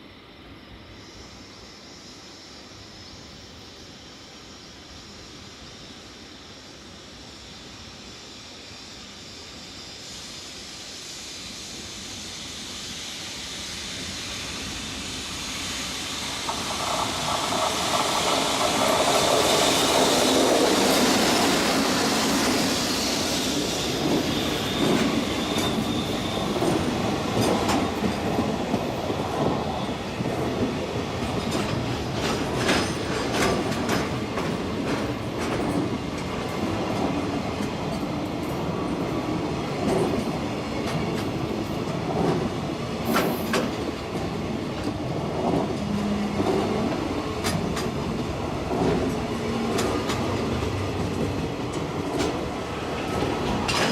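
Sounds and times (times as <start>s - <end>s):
electric locomotive approaching: 0.0s - 53.9s.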